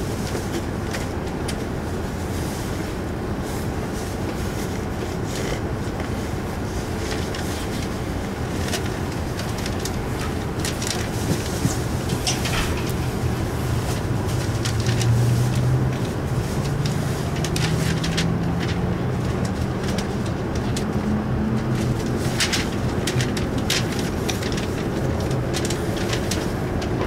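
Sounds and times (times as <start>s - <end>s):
train cabin rumble with motor tone: 0.0s - 27.0s.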